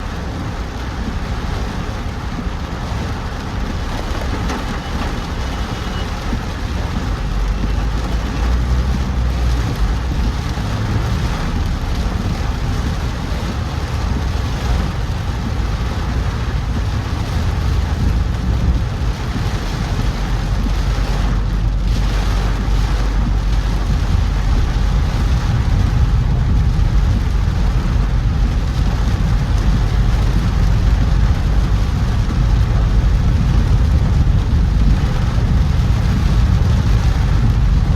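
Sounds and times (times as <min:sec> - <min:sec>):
car engine and tyre rumble: 0:00.0 - 0:37.9
rain hissing on wet road: 0:00.0 - 0:37.9.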